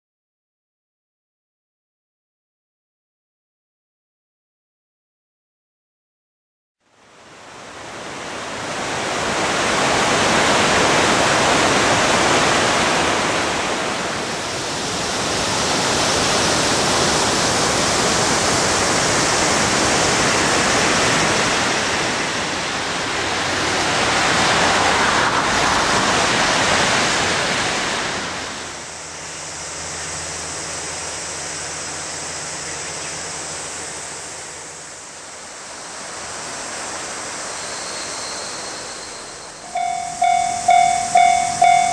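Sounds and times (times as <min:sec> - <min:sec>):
river water rushing: 0:07.2 - 0:41.9.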